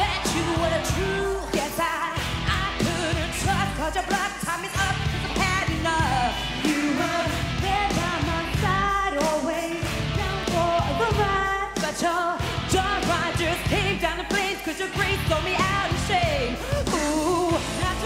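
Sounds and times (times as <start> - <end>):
band playing pop-rock: 0.0 - 18.0
person singing: 0.0 - 18.0.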